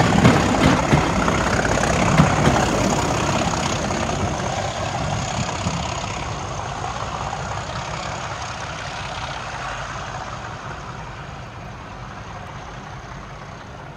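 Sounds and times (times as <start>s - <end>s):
diesel locomotive engine rumble: 0.0s - 13.9s.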